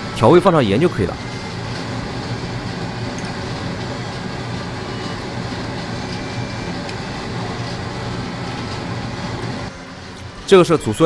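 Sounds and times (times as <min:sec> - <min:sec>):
low machine hum: 0:00.0 - 0:11.0
rushing noise: 0:00.0 - 0:11.0.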